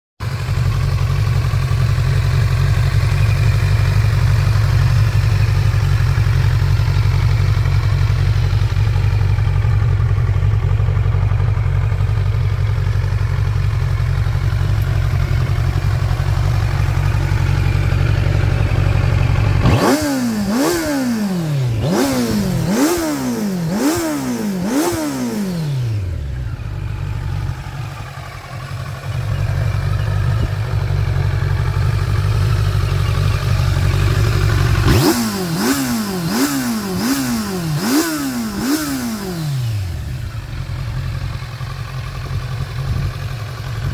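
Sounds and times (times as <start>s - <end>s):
motorcycle engine idling and revving: 0.2s - 43.9s.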